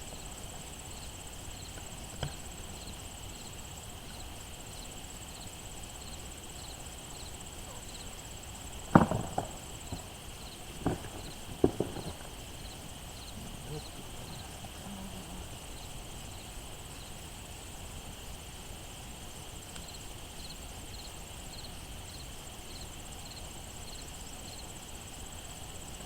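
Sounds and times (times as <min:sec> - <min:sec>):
insect buzzing: 0:00.0 - 0:26.0
regular insect chirp: 0:00.0 - 0:26.0.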